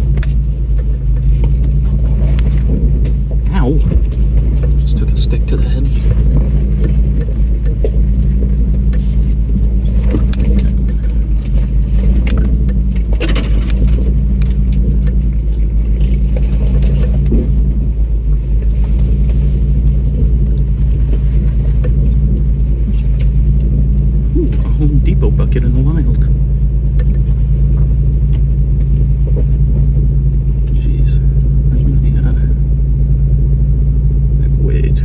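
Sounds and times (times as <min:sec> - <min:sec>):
truck clicking and knocking: 0:00.0 - 0:34.0
low engine drone: 0:00.0 - 0:35.0.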